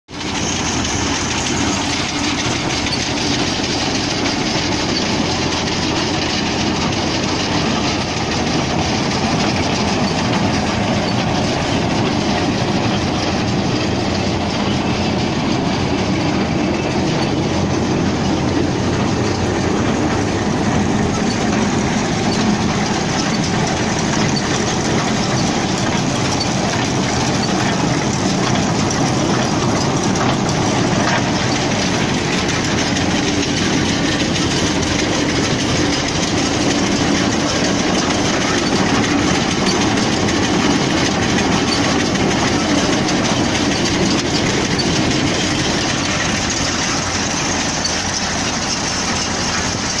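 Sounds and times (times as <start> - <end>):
baler mechanical clatter: 0.1 - 50.0
engine running: 0.1 - 50.0.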